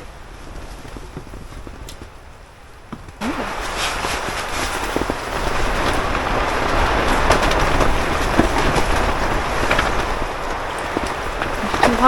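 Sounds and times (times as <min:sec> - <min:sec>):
strong wind gusting: 0:00.0 - 0:12.0
tent fabric flapping and rattling: 0:00.0 - 0:12.0.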